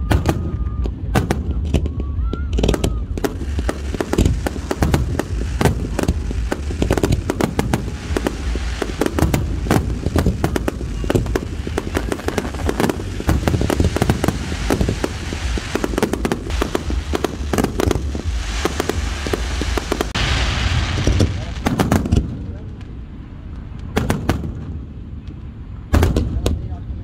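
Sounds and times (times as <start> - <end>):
crackling hiss: 0.0 - 26.8
fireworks bangs: 0.0 - 26.8.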